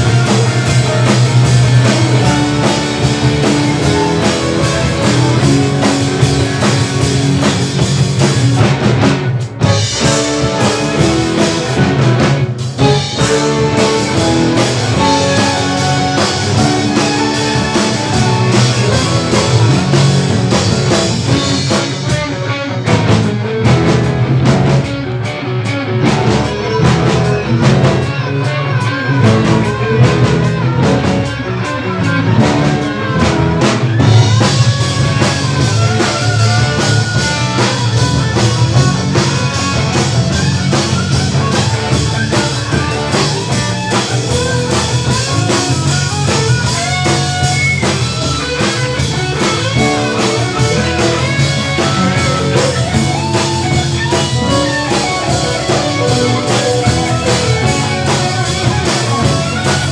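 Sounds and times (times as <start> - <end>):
jazz-rock fusion band playing: 0.0 - 59.9.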